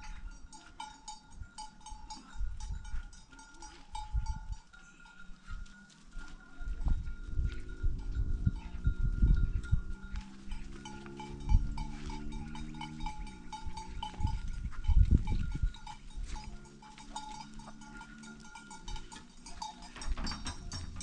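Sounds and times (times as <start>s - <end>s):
goat bells clinking: 0.0s - 21.0s.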